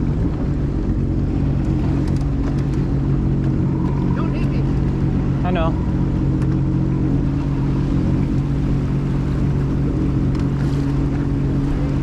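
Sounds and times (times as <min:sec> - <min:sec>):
jet ski engine idling: 0:00.0 - 0:12.0
water noise: 0:00.0 - 0:12.0
wind: 0:00.0 - 0:12.0.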